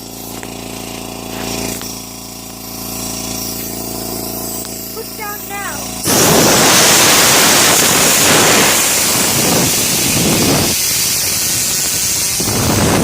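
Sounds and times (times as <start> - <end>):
compressed air hissing: 0.0 - 13.0.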